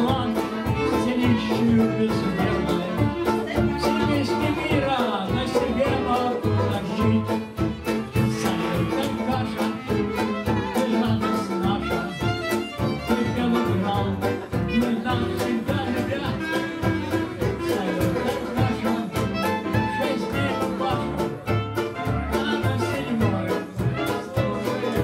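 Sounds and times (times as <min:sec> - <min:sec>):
clarinet: 0:00.0 - 0:25.0
fiddle: 0:00.0 - 0:25.0
plucked double bass: 0:00.0 - 0:25.0.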